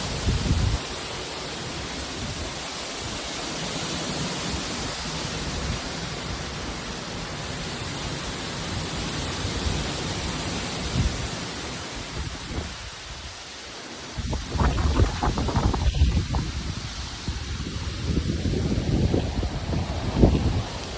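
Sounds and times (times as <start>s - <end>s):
storm wind blowing: 0.0s - 3.4s, 4.3s - 13.3s, 14.1s - 20.9s
wind gusts buffeting microphone: 0.0s - 3.4s, 4.4s - 13.3s, 14.1s - 20.9s.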